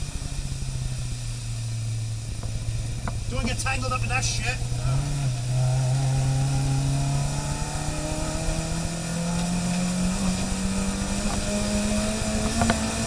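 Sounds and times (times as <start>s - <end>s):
car engine revving up: 0.0s - 13.0s.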